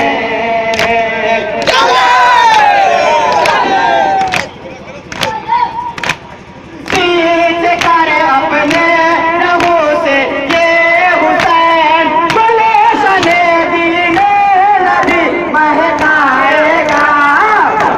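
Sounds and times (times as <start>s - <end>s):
mourners chanting a lament: 0.0s - 4.5s, 6.7s - 17.9s.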